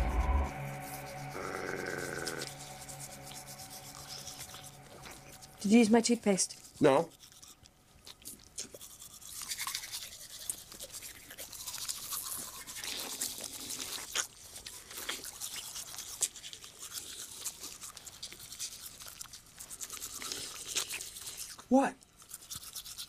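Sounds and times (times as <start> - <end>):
toothbrushes scrubbing teeth: 1.3 - 23.0.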